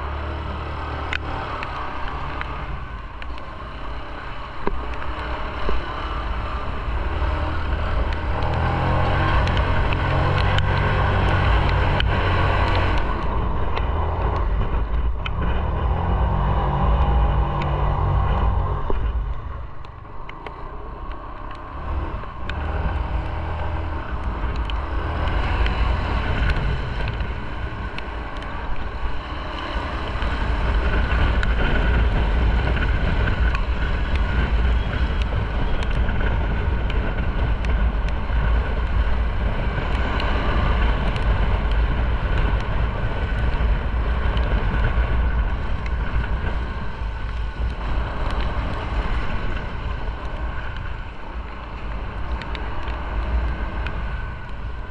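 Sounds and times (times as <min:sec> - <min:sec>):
wind noise on microphone: 0:00.0 - 0:54.9.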